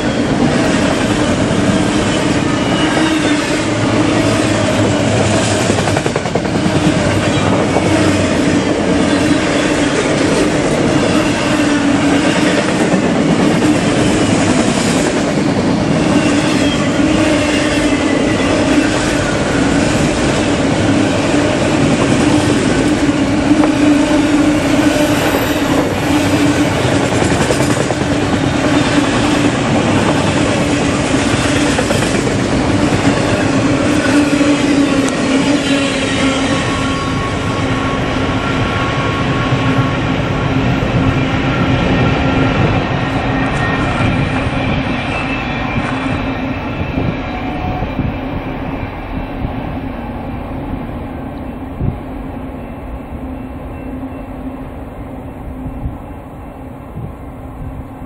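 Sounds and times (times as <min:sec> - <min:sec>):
train wheels on rails: 0:00.0 - 0:54.8.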